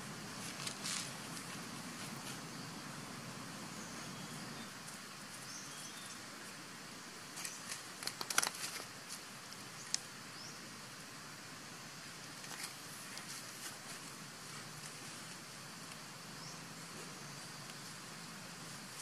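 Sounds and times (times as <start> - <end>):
leaves and twigs rustling: 0.0 - 10.5, 12.1 - 19.0.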